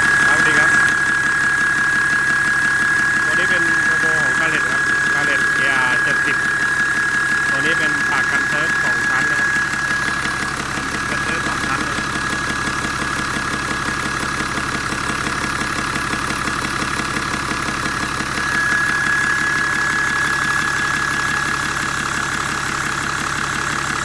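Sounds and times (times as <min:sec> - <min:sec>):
engine clatter: 0:00.0 - 0:24.0
turbo whistle: 0:00.0 - 0:24.0.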